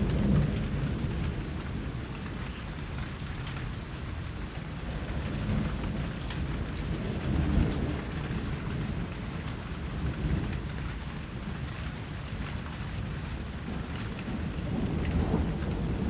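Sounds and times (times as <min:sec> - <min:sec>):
steady rain falling: 0:00.0 - 0:16.0
thunder rumbling: 0:00.0 - 0:16.0.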